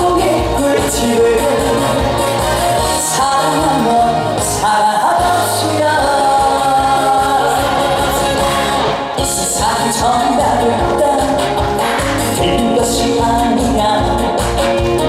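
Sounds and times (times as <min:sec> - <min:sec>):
live song introduction music: 0:00.0 - 0:15.0.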